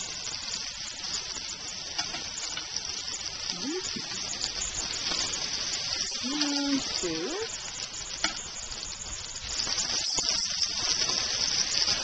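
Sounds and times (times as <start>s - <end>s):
steaks sizzling on grill pan: 0.0s - 12.0s.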